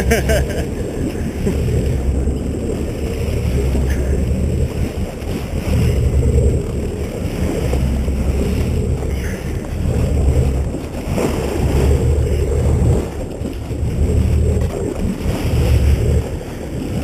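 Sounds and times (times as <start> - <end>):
boat engine drone: 0.0 - 17.0
water rushing past hull: 0.0 - 17.0
wind buffeting microphone: 0.0 - 17.0.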